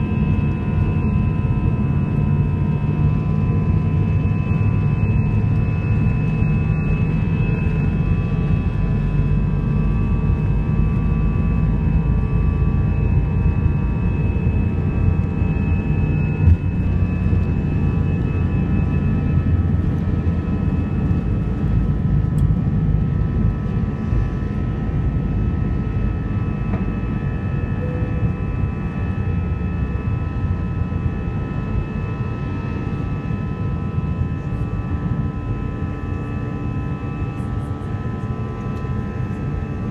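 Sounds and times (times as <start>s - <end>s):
jet engine cabin roar: 0.0s - 39.9s.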